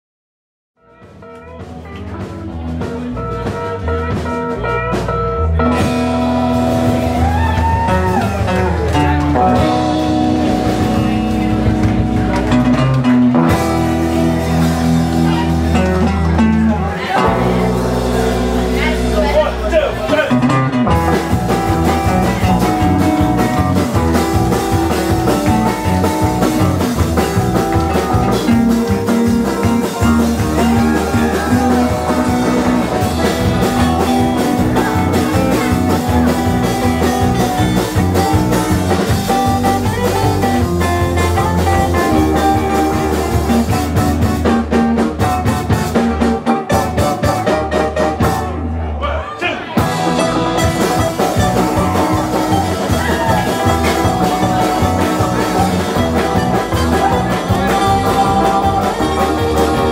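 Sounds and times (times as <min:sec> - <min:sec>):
live band playing rock and roll: 0:00.8 - 0:59.9.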